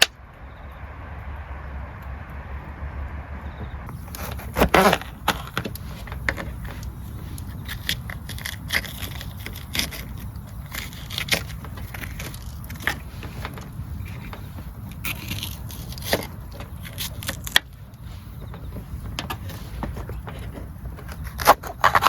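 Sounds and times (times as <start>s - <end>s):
steady low rumble: 0.0s - 22.0s
clicks and rustles of handling: 3.9s - 22.0s.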